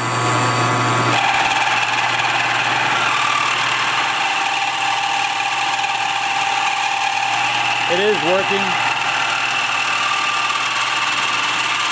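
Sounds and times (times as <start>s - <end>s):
high cutting whine: 0.0s - 11.9s
milling machine hum: 0.0s - 11.9s.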